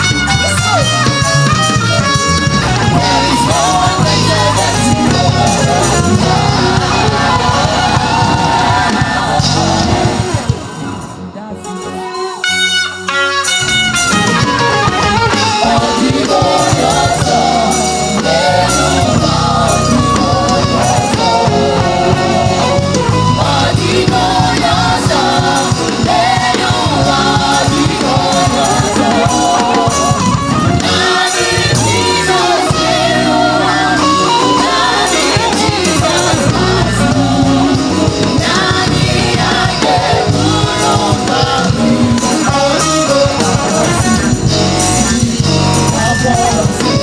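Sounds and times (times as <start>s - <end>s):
saxophone playing: 0.0s - 10.5s, 12.1s - 47.0s
electric bass sliding: 0.0s - 11.4s, 12.9s - 47.0s
people singing: 0.0s - 12.2s, 14.2s - 47.0s
live gospel band: 0.0s - 47.0s.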